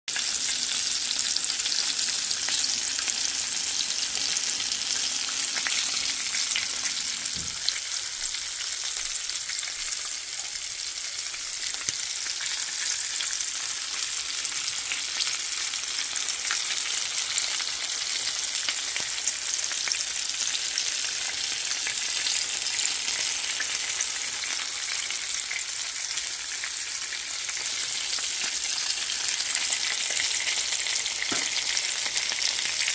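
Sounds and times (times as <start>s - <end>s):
chicken sizzling in hot oil: 0.1s - 32.9s.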